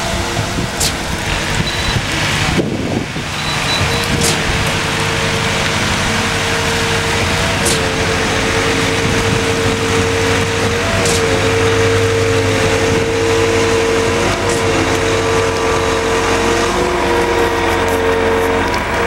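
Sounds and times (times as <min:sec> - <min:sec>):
pump truck engine running: 0:00.0 - 0:19.0.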